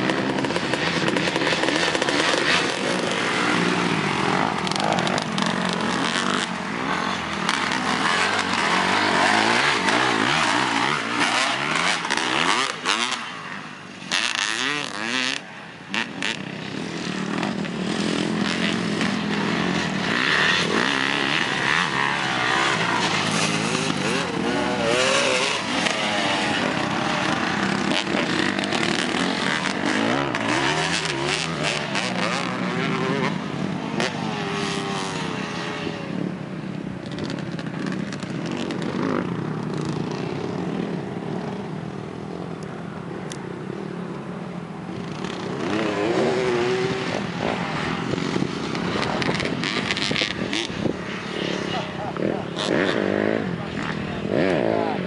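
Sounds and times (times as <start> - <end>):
dirt bikes revving: 0.0 - 55.0.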